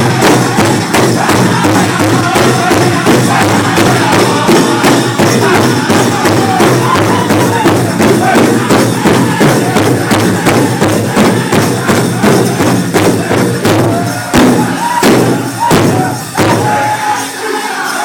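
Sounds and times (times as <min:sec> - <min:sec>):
big drum beating fast rhythm: 0:00.0 - 0:17.3
men singing high-pitched: 0:00.0 - 0:18.0.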